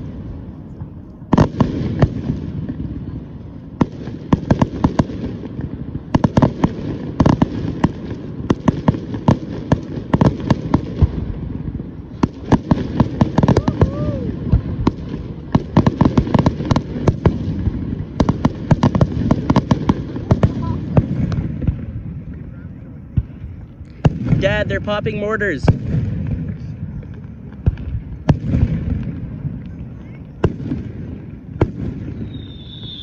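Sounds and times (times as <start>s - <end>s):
firework bang: 0.0s - 33.0s
fireworks crackling pops: 0.0s - 33.0s.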